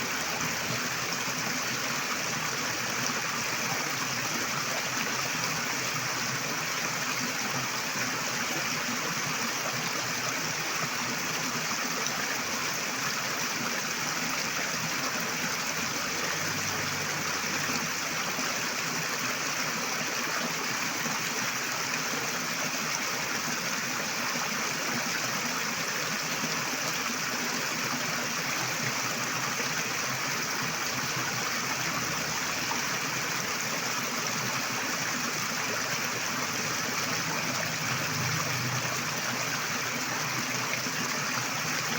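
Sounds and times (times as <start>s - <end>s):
river flowing over rocks: 0.0s - 41.9s.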